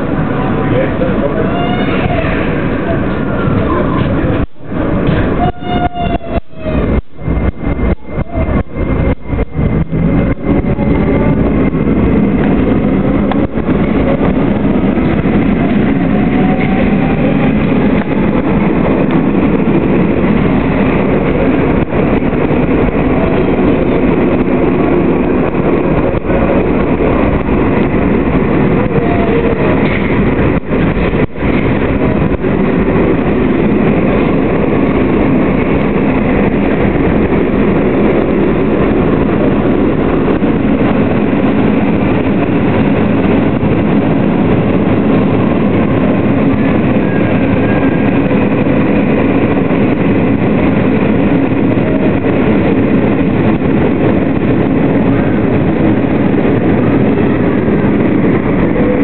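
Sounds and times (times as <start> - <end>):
faint whine shifting in pitch: 0.0 - 59.0
train wheels rumbling on rails: 0.0 - 59.0.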